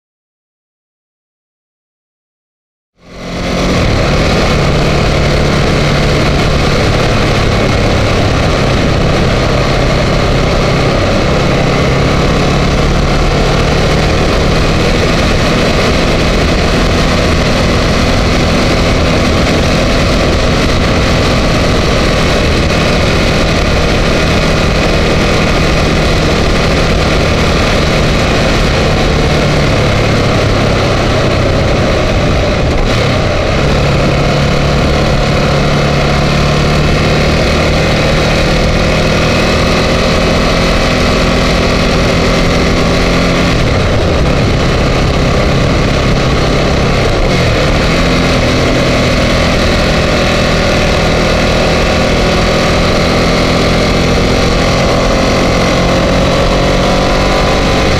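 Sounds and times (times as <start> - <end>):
motorcycle engine running: 3.0 - 57.9
road noise: 3.0 - 57.9
wind rush: 3.0 - 57.9.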